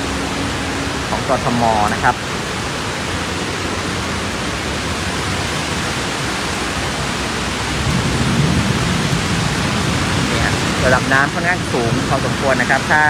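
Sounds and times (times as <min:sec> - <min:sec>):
floodwater rushing and sloshing: 0:00.0 - 0:13.0.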